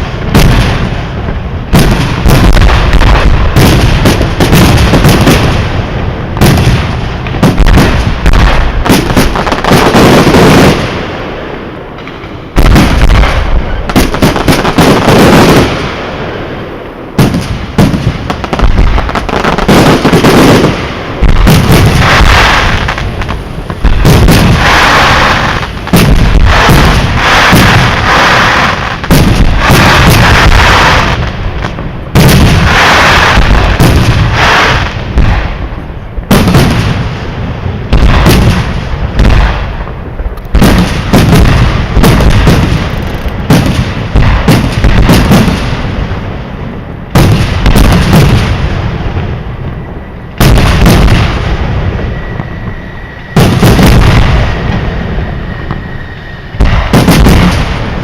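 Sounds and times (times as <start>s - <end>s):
fireworks bursting with bangs: 0.0s - 58.0s.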